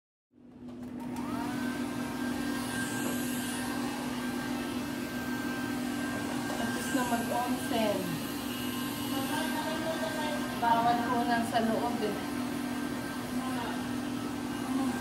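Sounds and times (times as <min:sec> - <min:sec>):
hair dryer whirring: 0:00.6 - 0:15.0.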